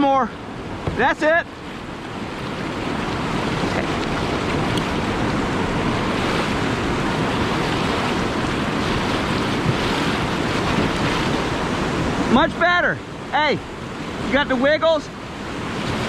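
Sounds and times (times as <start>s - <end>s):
river rapid rushing: 0.0s - 16.0s.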